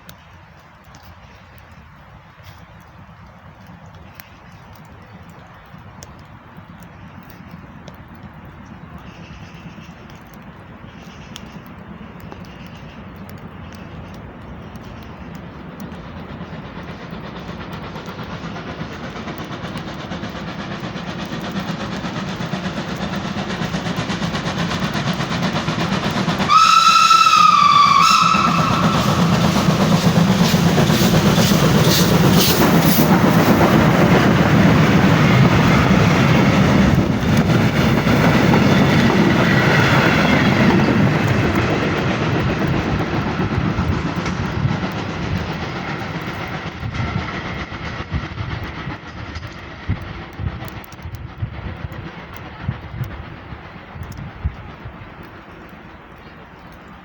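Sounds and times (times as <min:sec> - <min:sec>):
train wheels clattering over rail joints: 0:00.6 - 0:57.0.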